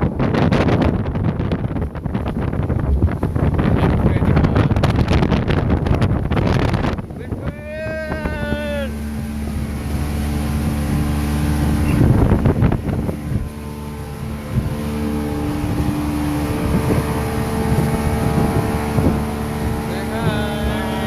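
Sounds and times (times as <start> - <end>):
motorboat engine running: 0.0 - 21.0
water noise: 0.0 - 21.0
wind: 0.0 - 21.0.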